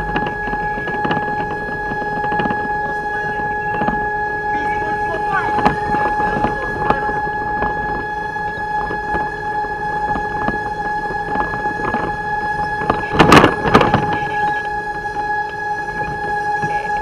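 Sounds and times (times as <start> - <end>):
steady high whine: 0.0 - 17.0
truck engine and road noise: 0.0 - 17.0.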